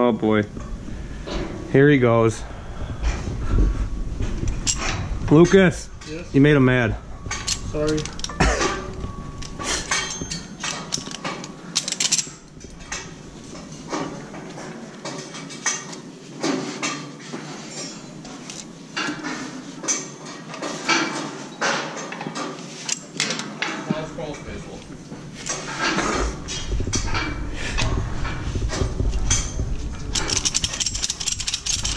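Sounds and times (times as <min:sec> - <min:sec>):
metal scaffold tubes clanking: 0:04.2 - 0:31.9.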